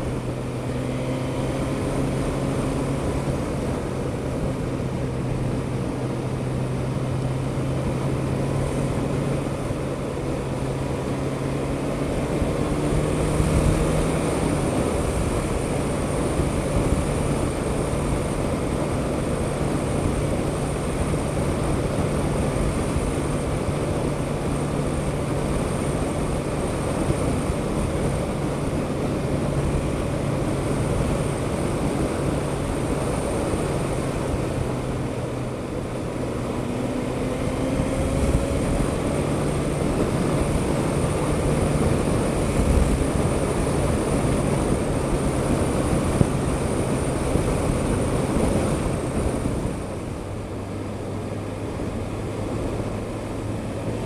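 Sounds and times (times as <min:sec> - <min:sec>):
motorcycle engine cruising: 0:00.0 - 0:54.0
road noise: 0:00.0 - 0:54.0
wind noise: 0:00.0 - 0:54.0.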